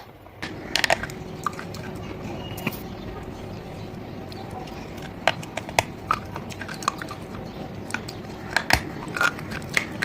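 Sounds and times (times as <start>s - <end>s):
person crunching hard food: 0.4s - 10.0s.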